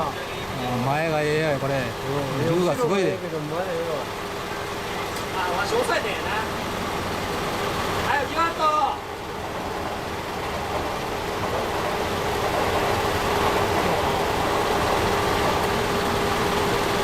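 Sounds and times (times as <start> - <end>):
motor engine running: 0.0 - 17.0.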